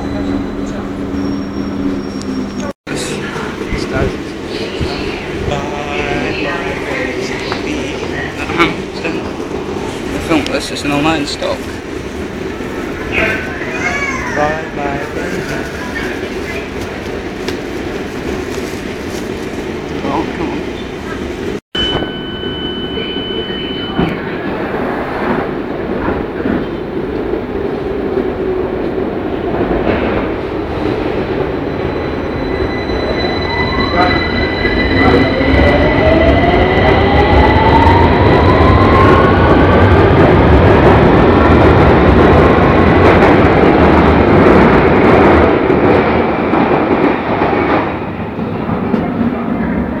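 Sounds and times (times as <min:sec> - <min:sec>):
wheels rumbling on rail: 0:00.0 - 0:50.0.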